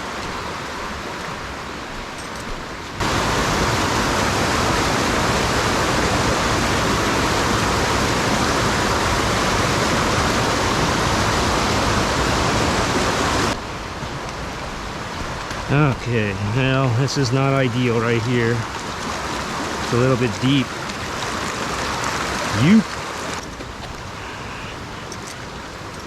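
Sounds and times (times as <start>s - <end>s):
fast water rushing in creek: 0.0s - 26.0s.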